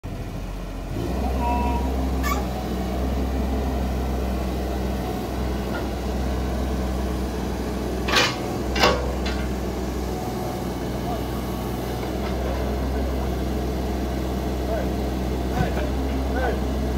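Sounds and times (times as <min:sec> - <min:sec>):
excavator diesel engine running: 0:00.0 - 0:16.9
hydraulics working: 0:00.1 - 0:16.9.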